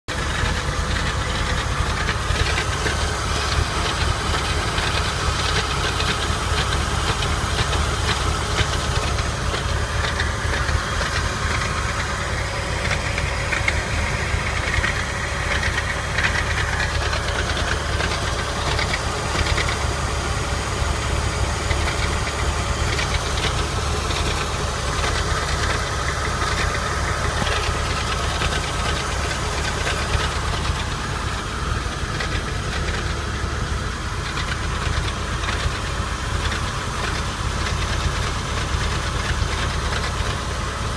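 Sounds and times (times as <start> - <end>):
car engine running: 0.0 - 40.9
rattle under car: 0.0 - 40.9.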